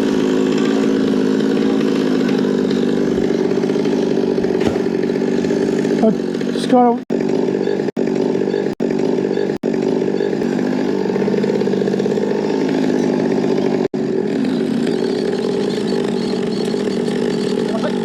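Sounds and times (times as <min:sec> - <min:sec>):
chainsaw engine running: 0:00.0 - 0:18.0.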